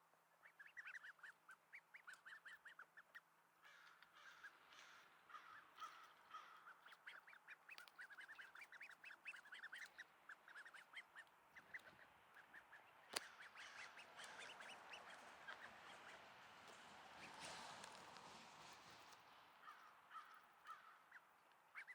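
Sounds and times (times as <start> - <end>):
duckling peeping: 0.4 - 18.0, 19.0 - 21.9.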